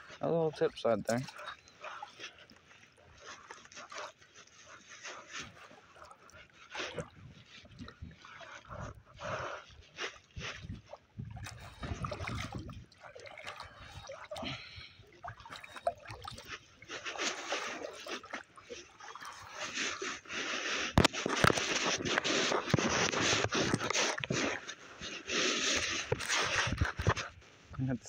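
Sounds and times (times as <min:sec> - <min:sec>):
water trickling off paddle: 0:00.0 - 0:27.9
kayak paddle splashing in water: 0:00.1 - 0:27.8.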